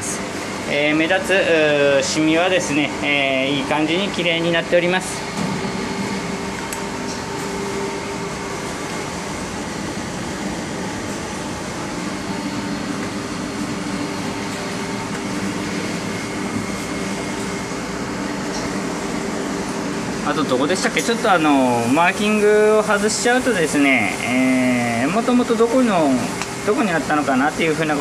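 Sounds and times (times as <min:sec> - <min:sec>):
room machinery humming: 0:00.0 - 0:28.0.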